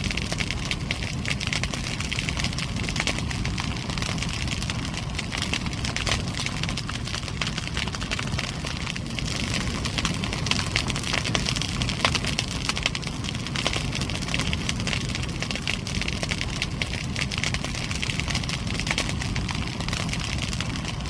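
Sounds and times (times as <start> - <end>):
burning wood crackling: 0.0 - 21.0
roar of flames: 0.0 - 21.0.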